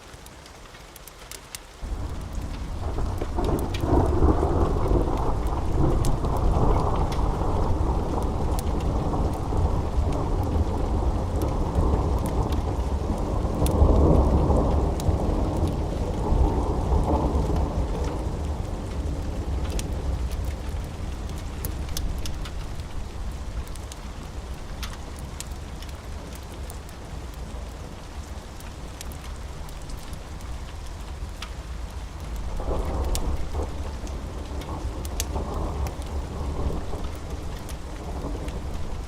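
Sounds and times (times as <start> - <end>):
sharp crackles: 0.0 - 39.0
steady rain: 0.0 - 39.0
rolling thunder rumble: 1.8 - 39.0.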